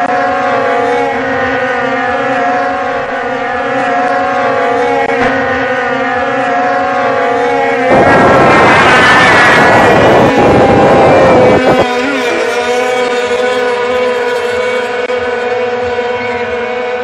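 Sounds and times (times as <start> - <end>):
speedboat outboard engines whining: 0.0 - 17.0.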